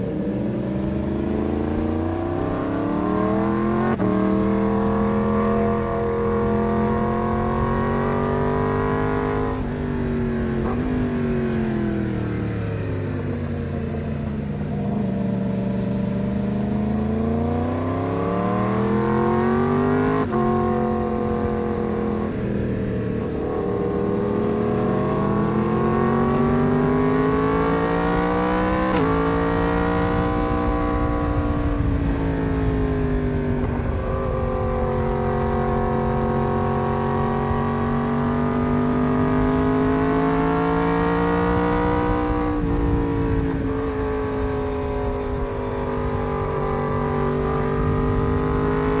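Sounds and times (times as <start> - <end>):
motorcycle engine revving: 0.0 - 49.0
wind and road noise: 0.0 - 49.0.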